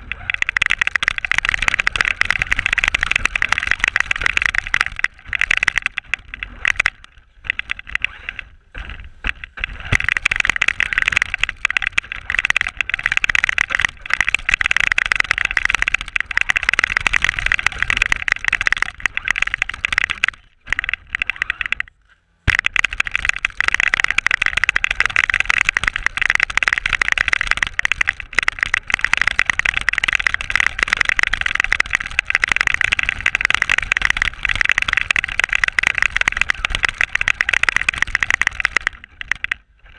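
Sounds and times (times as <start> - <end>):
rumbling from bumps: 0.0 - 39.9.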